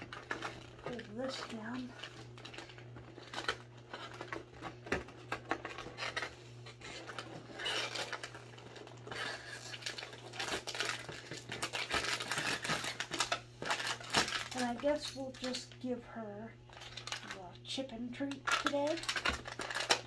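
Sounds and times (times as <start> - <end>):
packet crinkling: 0.0 - 15.7, 16.7 - 20.0.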